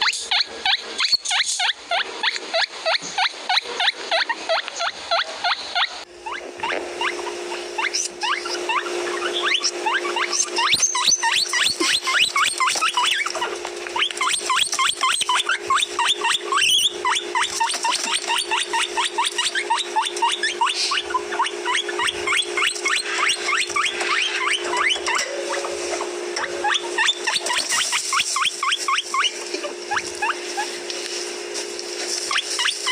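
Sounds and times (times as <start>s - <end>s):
guinea pigs wheeking: 0.0s - 32.9s
steady low hum: 0.0s - 32.9s.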